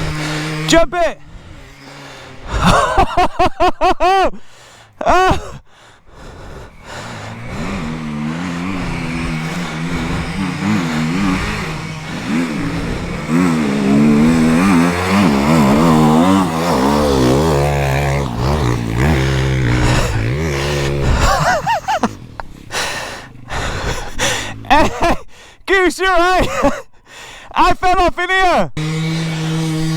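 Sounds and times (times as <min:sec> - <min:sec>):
dirt bike engine revving: 0:00.0 - 0:26.8, 0:28.8 - 0:29.9.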